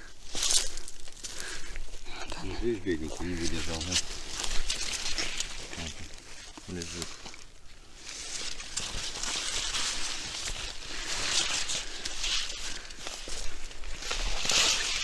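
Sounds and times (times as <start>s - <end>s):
leaves and stalks rustling: 0.0s - 15.0s
footsteps: 0.2s - 15.0s.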